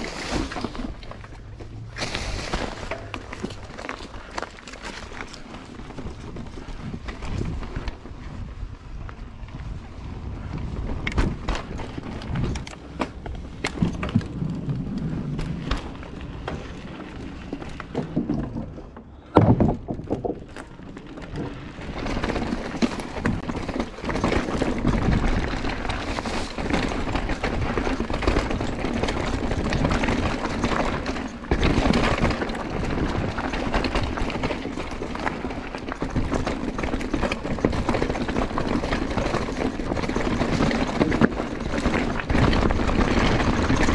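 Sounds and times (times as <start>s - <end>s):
bike knocking and rattling: 0.0s - 43.9s
bike tyres crunching over dirt: 0.0s - 43.9s
tyre and wind noise: 0.0s - 43.9s.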